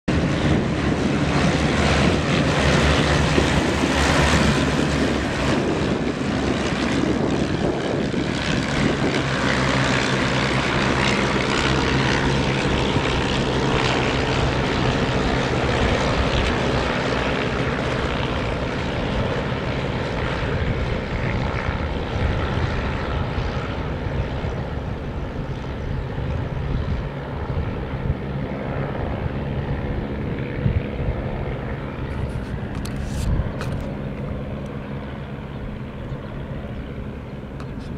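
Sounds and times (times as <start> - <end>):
propeller planes droning: 0.0 - 37.9.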